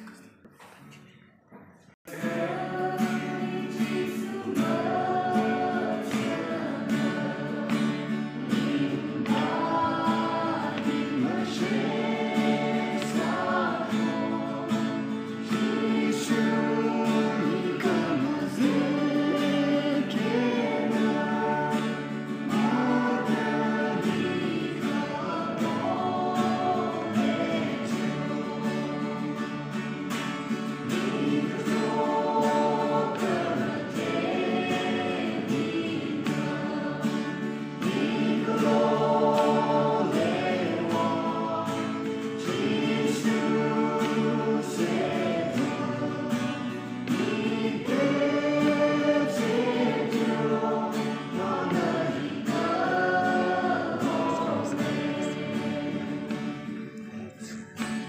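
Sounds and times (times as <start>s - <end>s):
strummed acoustic guitar: 0.0s - 58.0s
choir singing: 2.1s - 58.0s.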